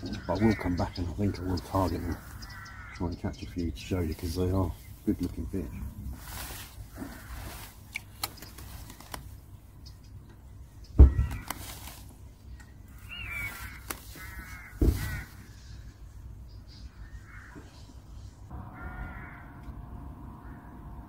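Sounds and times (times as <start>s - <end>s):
bird calls: 0.0s - 19.6s.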